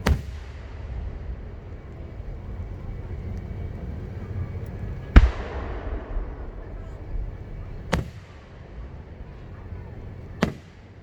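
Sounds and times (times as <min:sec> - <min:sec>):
firework bang echoing: 0:00.0 - 0:11.0
low rumble of fireworks: 0:00.0 - 0:11.0.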